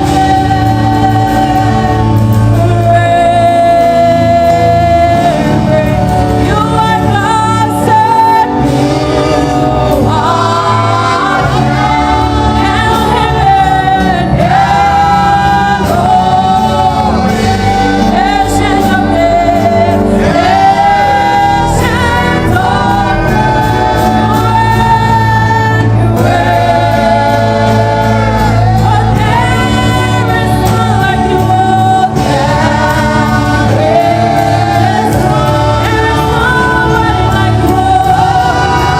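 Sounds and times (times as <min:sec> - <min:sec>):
choir singing gospel: 0:00.0 - 0:38.9
instrumental backing: 0:00.0 - 0:38.9
steady bass: 0:00.0 - 0:38.9.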